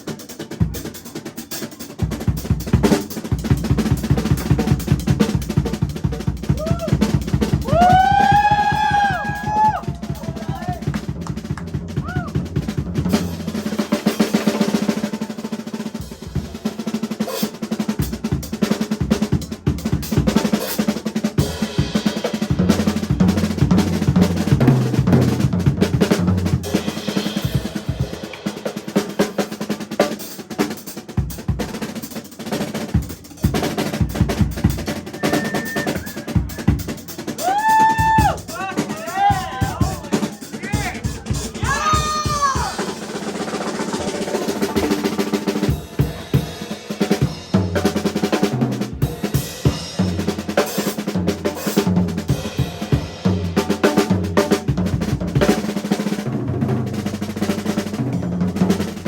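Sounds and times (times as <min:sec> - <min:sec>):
live band playing: 0:00.0 - 0:59.0
snare drum rolls: 0:00.0 - 0:59.0.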